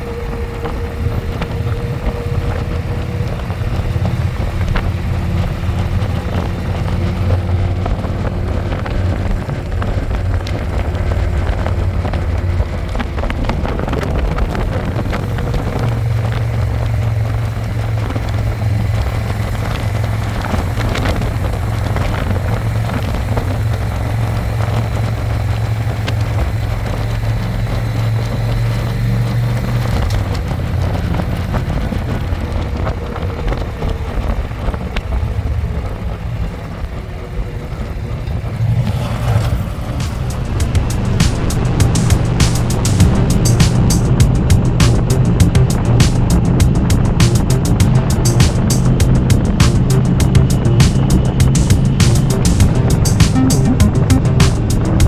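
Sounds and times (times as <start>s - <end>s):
motorcycle engine running: 0.0s - 36.9s, 37.8s - 55.0s.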